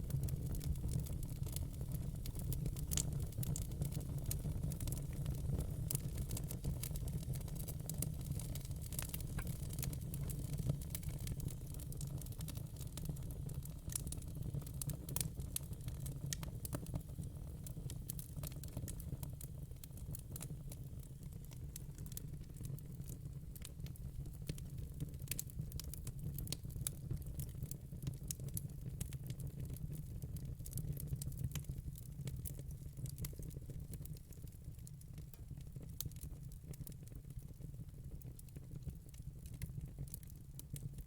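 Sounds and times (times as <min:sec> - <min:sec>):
wood fire crackling: 0:00.0 - 0:37.6.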